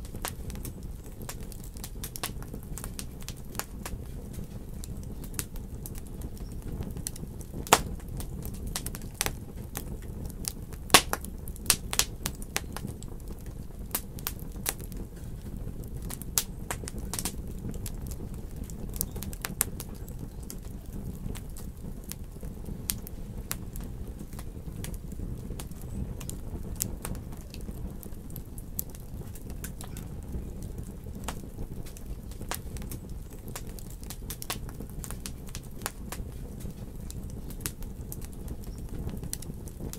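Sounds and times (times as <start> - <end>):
fire popping and snapping: 0.0 - 39.9
fire rumbling: 0.0 - 39.9.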